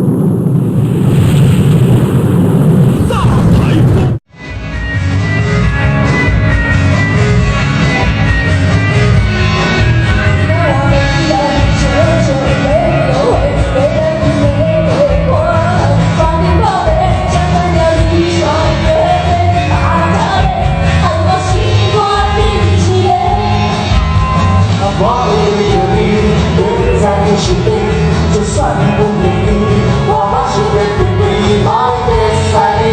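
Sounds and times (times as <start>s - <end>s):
band playing live: 4.4s - 32.9s.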